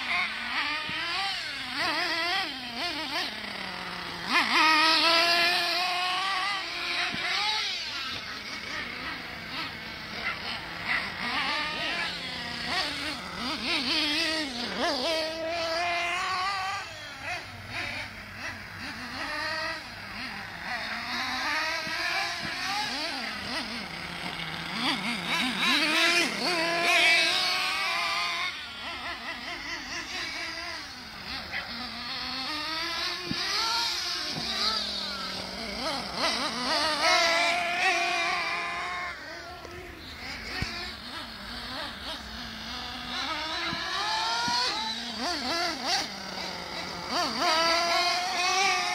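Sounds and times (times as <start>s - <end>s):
rc truck engines buzzing and revving: 0.0s - 48.9s.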